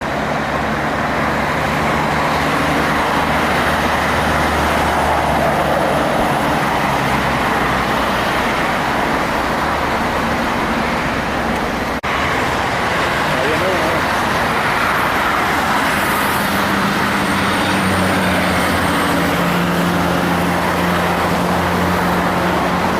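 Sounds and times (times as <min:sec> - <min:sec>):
truck diesel engine droning: 0:00.0 - 0:22.9
tyre and road noise: 0:00.0 - 0:22.9.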